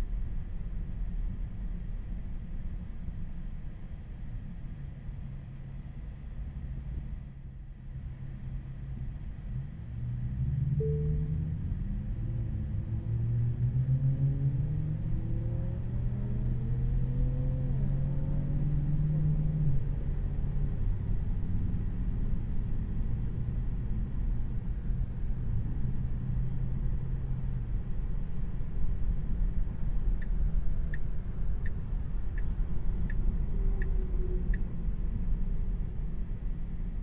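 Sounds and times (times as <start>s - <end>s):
road and tyre rumble: 0.0s - 37.0s.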